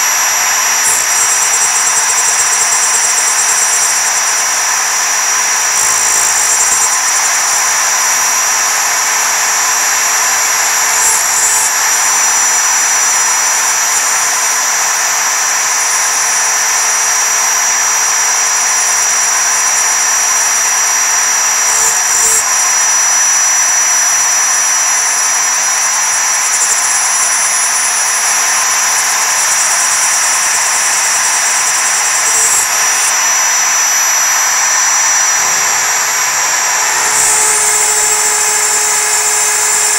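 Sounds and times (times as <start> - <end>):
hiss of metal cutting: 0.0 - 39.9
router spindle whine: 0.0 - 39.9.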